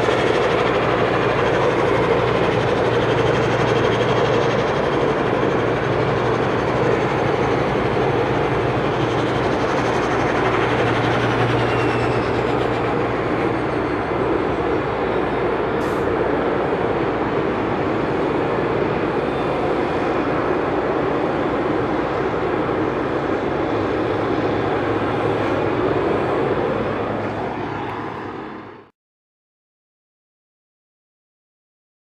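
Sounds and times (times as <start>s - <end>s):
turboprop engines droning: 0.0s - 28.9s.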